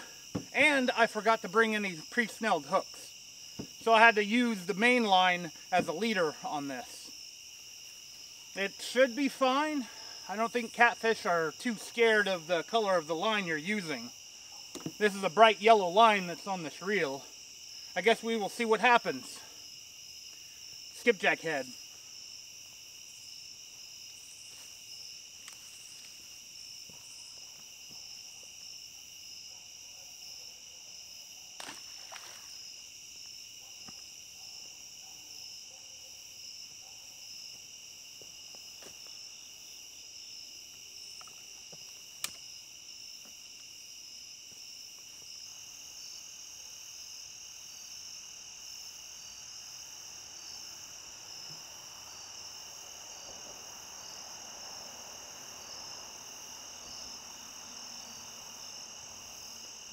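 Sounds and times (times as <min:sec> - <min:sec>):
night insects chirping: 0:00.0 - 0:59.9.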